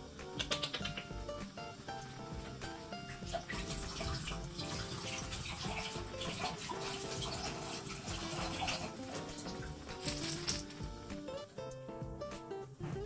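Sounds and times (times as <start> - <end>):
water running from a tap: 0.0 - 11.3
light melodic background music: 0.0 - 13.0.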